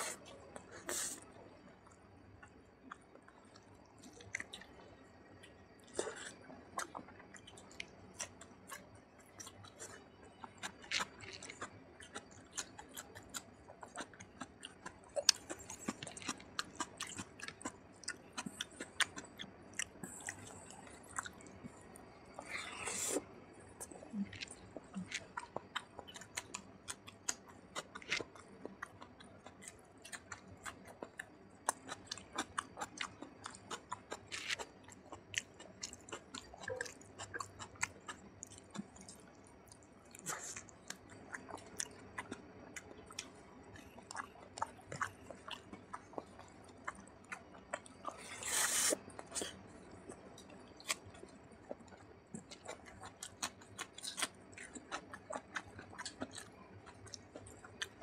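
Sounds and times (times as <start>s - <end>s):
wet chewing and lip clicks: 1.8s - 58.0s.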